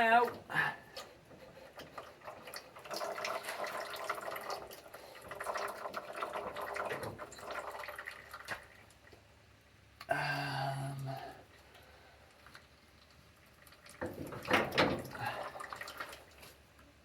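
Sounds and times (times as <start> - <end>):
hydraulic fluid trickling and dripping: 0.0 - 10.1, 11.0 - 17.0.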